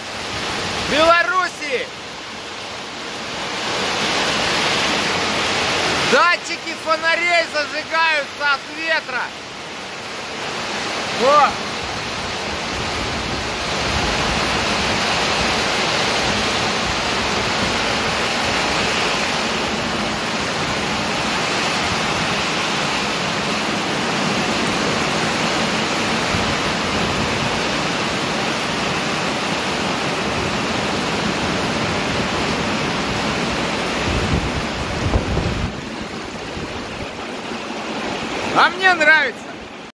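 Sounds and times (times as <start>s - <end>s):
heavy rain on paving stones: 0.0s - 38.6s.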